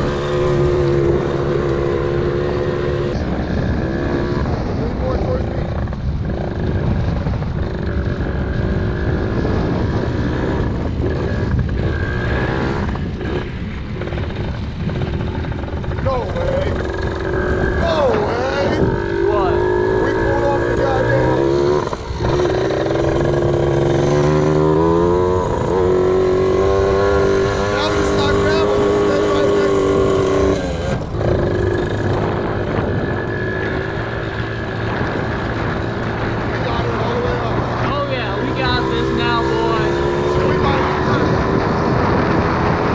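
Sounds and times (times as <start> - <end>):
wind noise on microphone: 0.0 - 42.9
small motorbike engine running: 5.4 - 42.9.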